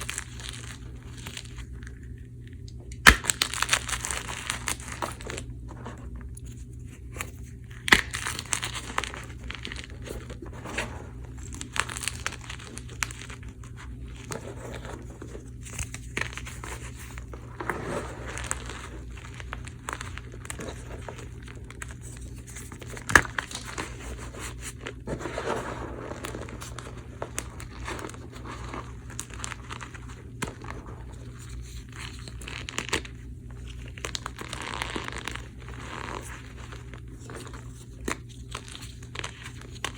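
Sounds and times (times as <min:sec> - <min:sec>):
chalk crumbling and crackling: 0:03.0 - 0:39.9.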